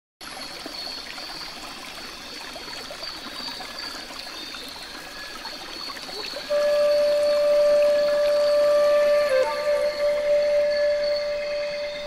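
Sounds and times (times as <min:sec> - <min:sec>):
water trickling: 0:00.2 - 0:12.0.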